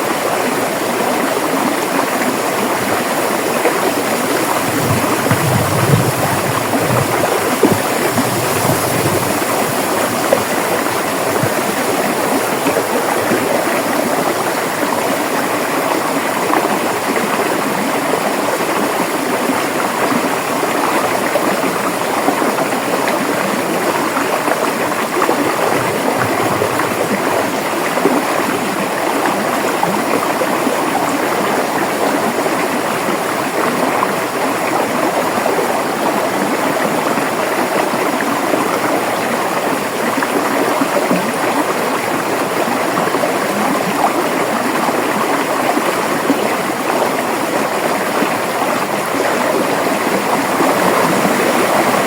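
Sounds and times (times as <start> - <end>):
river water rushing over rocks: 0.0 - 52.0.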